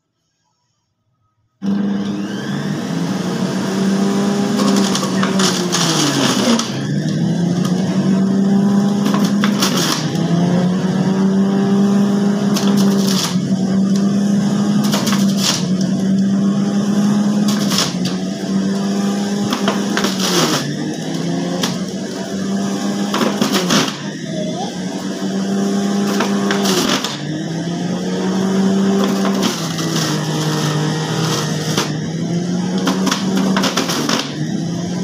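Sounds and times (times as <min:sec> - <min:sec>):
juicer motor whining: 0:01.6 - 0:35.0.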